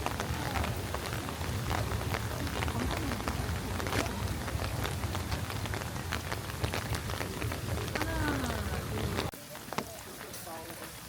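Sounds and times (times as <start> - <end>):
raindrops ticking close by: 0.0 - 11.0
steady rain falling: 0.0 - 11.0.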